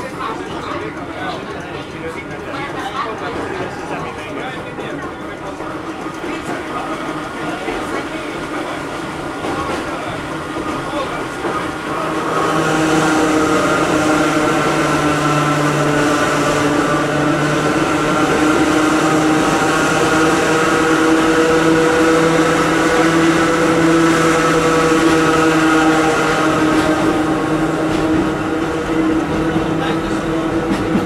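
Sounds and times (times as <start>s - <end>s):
train running noise: 0.0s - 31.0s.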